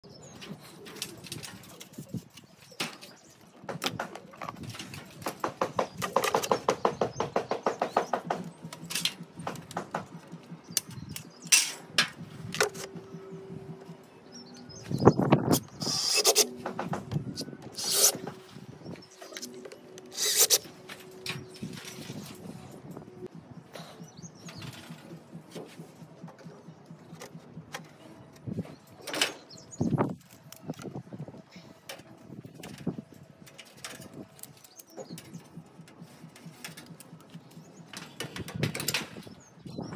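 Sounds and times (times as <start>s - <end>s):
bird chirp: 0.0s - 30.4s, 32.6s - 39.9s.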